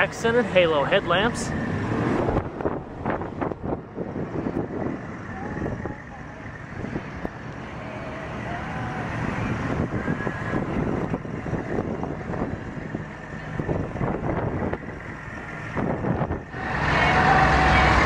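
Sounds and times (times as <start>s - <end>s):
vehicle engine rumble: 0.0s - 18.0s
wind buffeting microphone: 1.6s - 7.7s, 8.8s - 18.0s.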